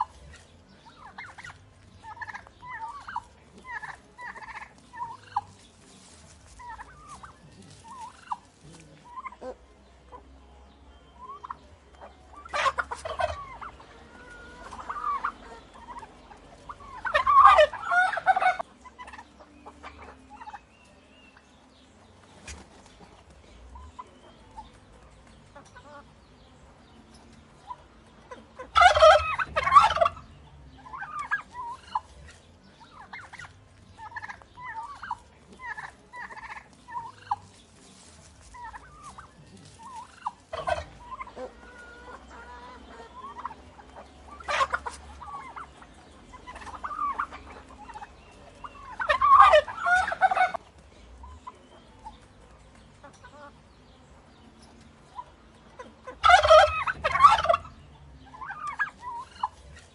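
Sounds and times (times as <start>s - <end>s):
turkeys gobbling: 0.0s - 10.4s, 11.1s - 26.2s, 26.8s - 59.9s
soft turkey calls: 0.0s - 26.2s, 27.1s - 53.6s, 54.5s - 59.9s.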